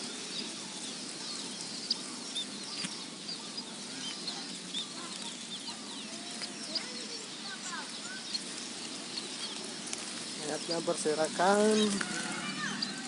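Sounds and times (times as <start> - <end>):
sparrows chirping: 0.0 - 13.0
steady background hiss: 0.0 - 13.0.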